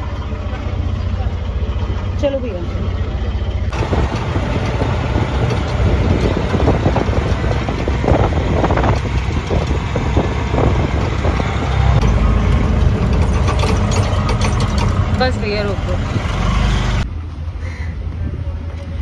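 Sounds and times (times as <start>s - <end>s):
auto-rickshaw engine droning: 0.0s - 19.0s
road noise: 0.0s - 19.0s.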